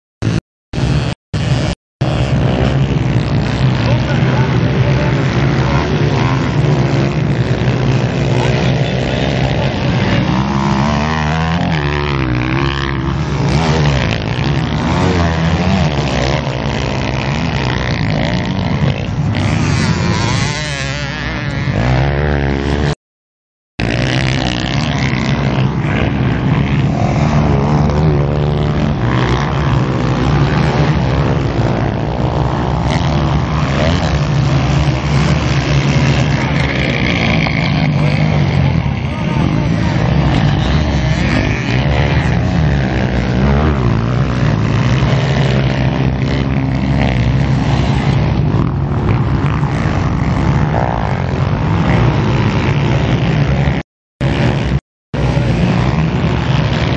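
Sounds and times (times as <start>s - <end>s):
dirt bike engines revving: 0.2s - 23.0s, 23.8s - 56.9s.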